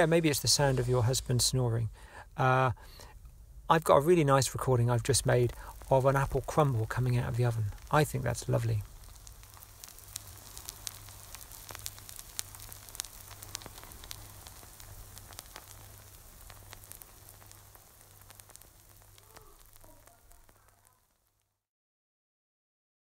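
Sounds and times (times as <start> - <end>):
low steady hum: 0.0 - 20.8
crumble sizzling and crackling: 0.0 - 21.6.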